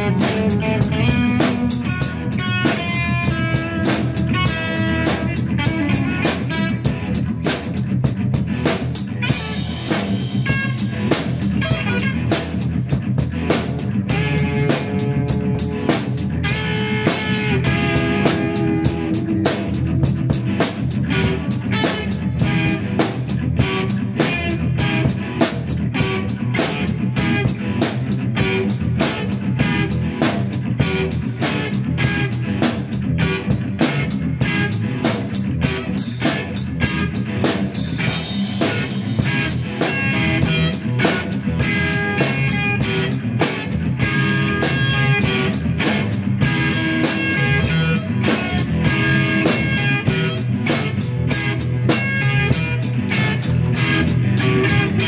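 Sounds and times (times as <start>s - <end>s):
instrumental rock band: 0.0s - 55.0s.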